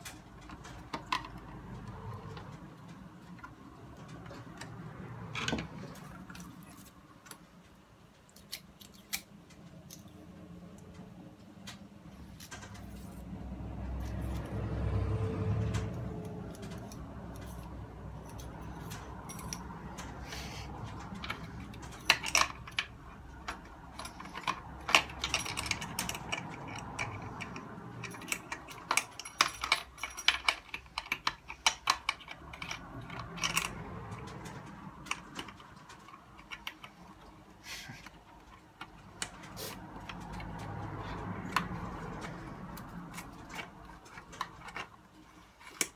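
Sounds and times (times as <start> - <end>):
small parts clicking and tapping: 0.0 - 45.9.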